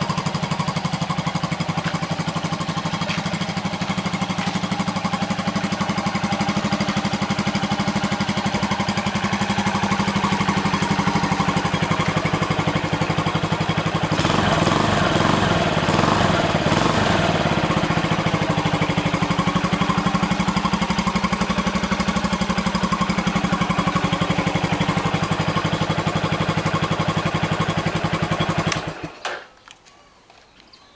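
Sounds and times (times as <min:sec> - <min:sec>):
motorcycle engine idling: 0:00.0 - 0:29.2.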